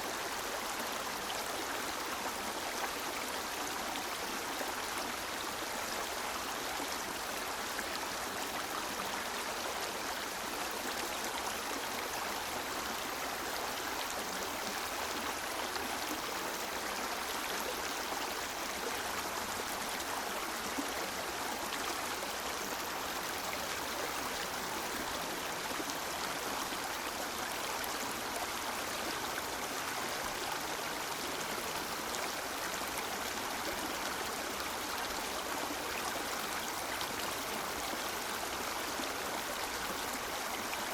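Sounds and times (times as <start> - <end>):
stream rushing and burbling: 0.0 - 40.9.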